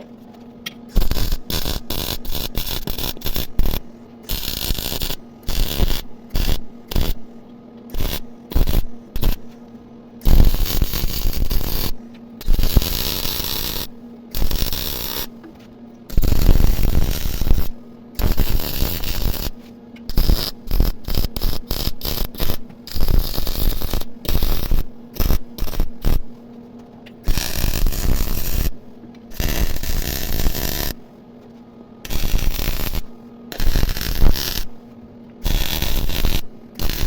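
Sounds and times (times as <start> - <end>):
steady low hum: 0.0 - 37.0
electric welding arc buzzing: 0.9 - 9.6, 10.2 - 15.4, 16.1 - 26.4, 27.2 - 31.0, 32.0 - 34.8, 35.4 - 37.0.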